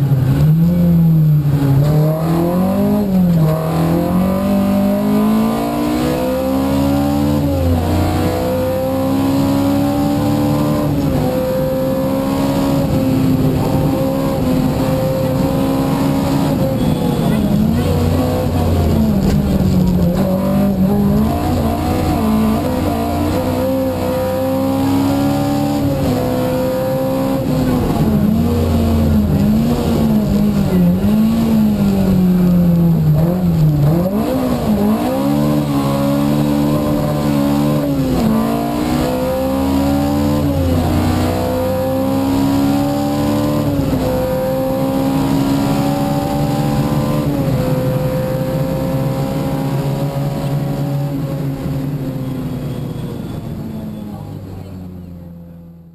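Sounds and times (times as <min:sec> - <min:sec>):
car engine revving through gears: 0:00.0 - 0:52.8.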